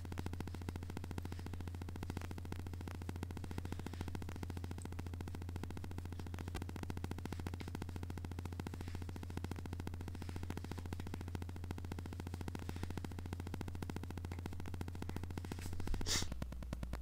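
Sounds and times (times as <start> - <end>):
low electrical hum: 0.0 - 17.0
rapid even buzz: 0.0 - 17.0.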